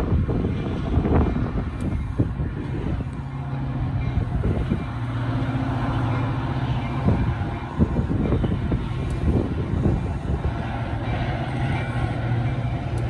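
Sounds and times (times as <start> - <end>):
train cars rolling past: 0.0 - 13.0
wheels clicking over rail joints: 0.0 - 13.0
wind on microphone: 0.0 - 13.0.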